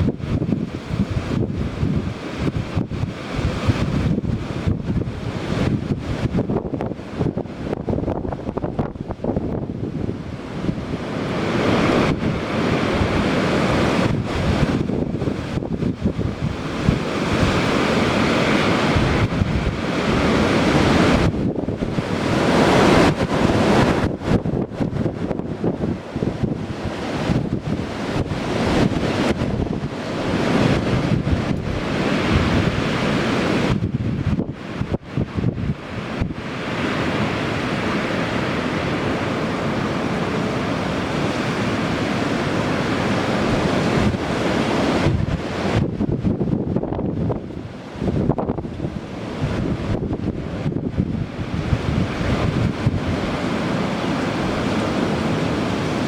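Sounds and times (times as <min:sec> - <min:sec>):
gusty wind buffeting microphone: 0:00.0 - 0:56.0.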